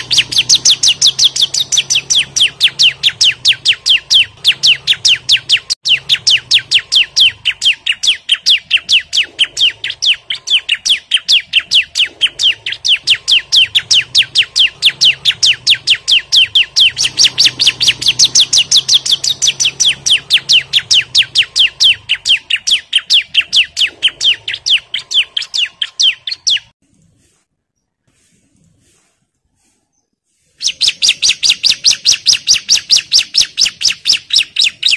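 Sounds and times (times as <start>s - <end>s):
bird high sharp chirps: 0.0s - 26.8s, 29.9s - 34.9s.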